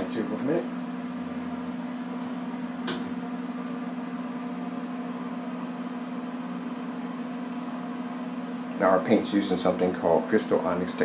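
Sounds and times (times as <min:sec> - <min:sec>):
low droning machine hum: 0:00.0 - 0:11.0.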